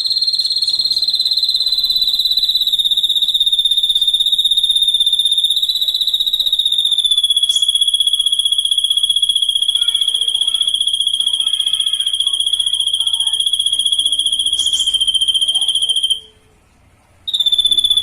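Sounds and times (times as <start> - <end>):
high-pitched insect trill: 0.0 - 16.3.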